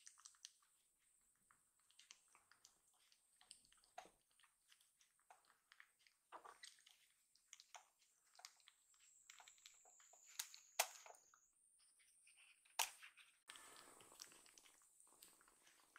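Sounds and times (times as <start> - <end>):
kitten suckling wet clicks: 0.0 - 11.2, 12.8 - 15.9.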